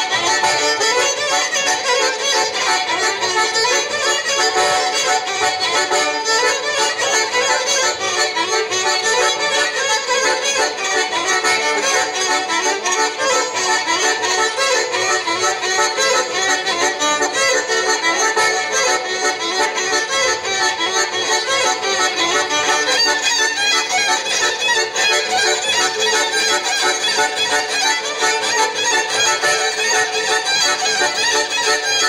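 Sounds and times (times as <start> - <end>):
instrumental folk dance music: 0.0 - 32.0.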